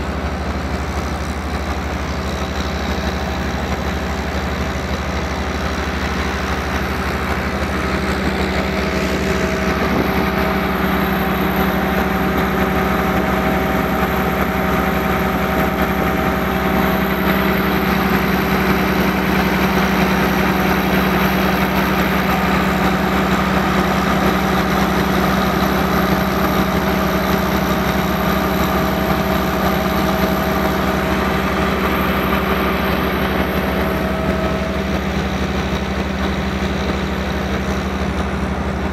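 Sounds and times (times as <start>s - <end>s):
generator engine droning: 0.0s - 38.9s.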